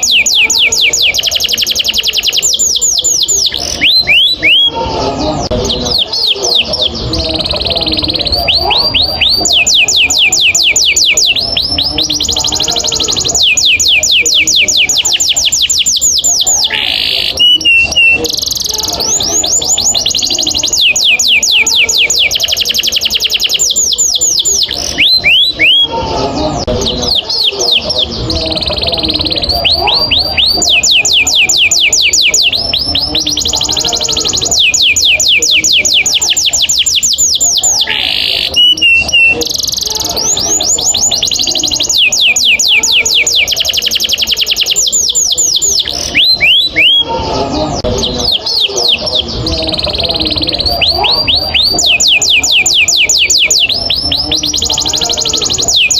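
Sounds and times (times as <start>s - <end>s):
canary singing: 0.0s - 55.9s.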